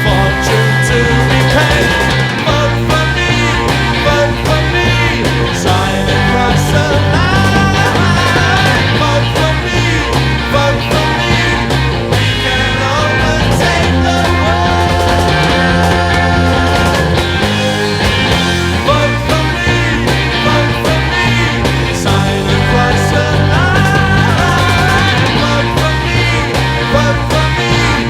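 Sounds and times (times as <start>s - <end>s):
rock band playing: 0.0s - 28.0s
steady drum beat: 0.0s - 28.0s.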